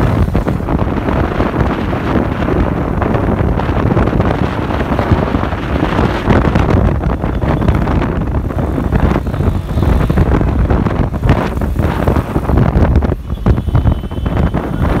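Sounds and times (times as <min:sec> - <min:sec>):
road and traffic rumble: 0:00.0 - 0:15.0
wind buffeting microphone: 0:00.0 - 0:15.0.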